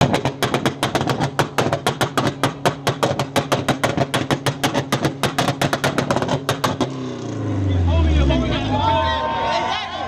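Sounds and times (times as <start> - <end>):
car exhaust popping: 0.0 - 8.4.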